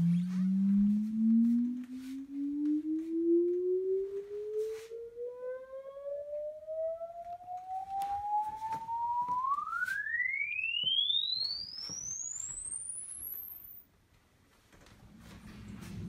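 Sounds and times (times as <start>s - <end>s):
sine-wave sweep test tone: 0.0s - 13.9s.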